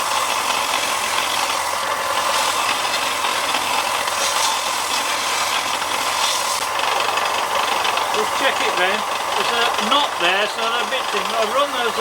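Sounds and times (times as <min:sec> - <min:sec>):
dust extractor: 0:00.0 - 0:12.0
electric sander grinding wood: 0:00.0 - 0:12.0.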